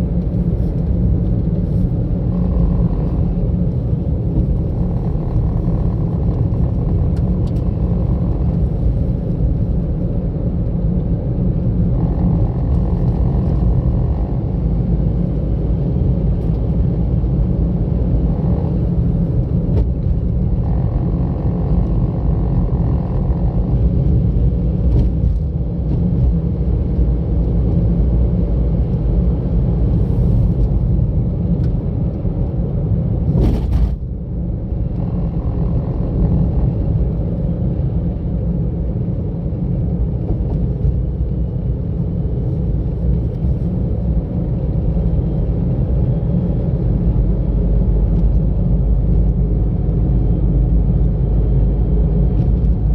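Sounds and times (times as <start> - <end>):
car driving on road: 0.0 - 52.9.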